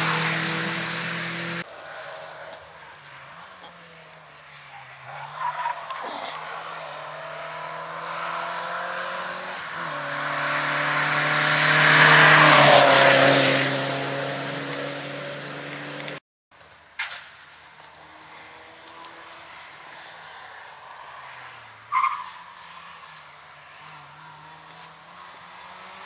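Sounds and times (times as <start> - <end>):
rush of tyre noise: 0.0 - 26.0.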